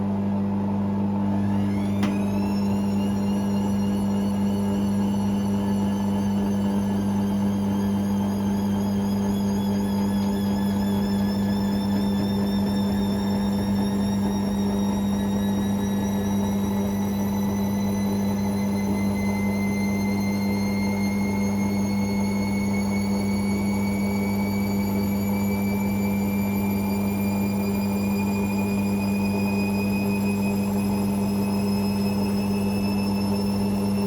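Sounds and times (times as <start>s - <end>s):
washing machine motor whine: 0.0s - 34.0s.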